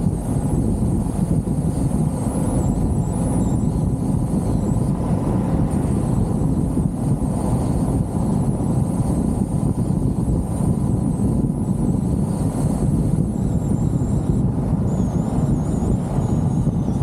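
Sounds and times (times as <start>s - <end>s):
faint wavering high whine: 0.0s - 17.0s
road and engine rumble: 0.0s - 17.0s
wind buffeting microphone: 0.0s - 17.0s.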